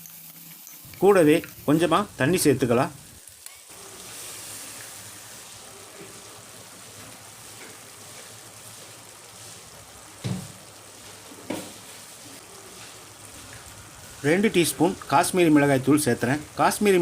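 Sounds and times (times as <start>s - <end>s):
paste sizzling in hot oil: 0.0s - 17.0s.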